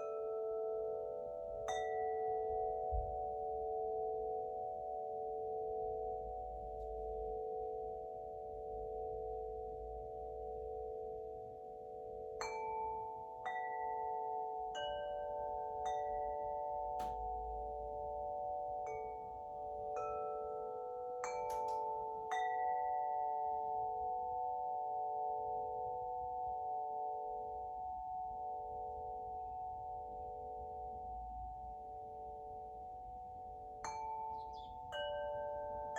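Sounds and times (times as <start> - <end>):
wind chime ringing: 0.0 - 35.9.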